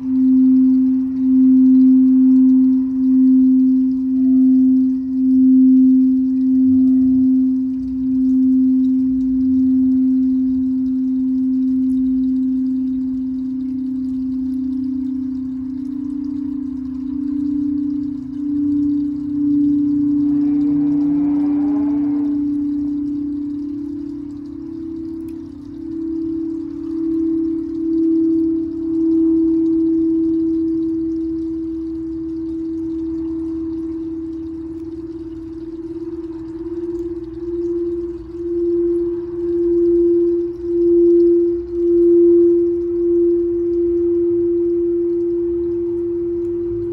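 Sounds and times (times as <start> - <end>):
singing bowl ringing low tone: 0.0 - 46.9.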